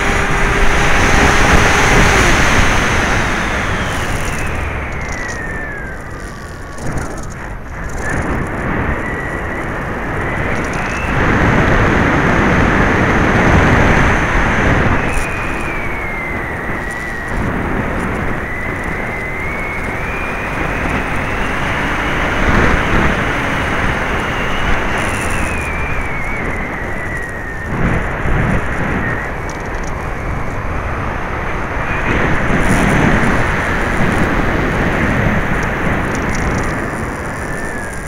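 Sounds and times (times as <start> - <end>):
electric motor and propeller whine: 0.0 - 38.0
wind noise: 0.0 - 38.0.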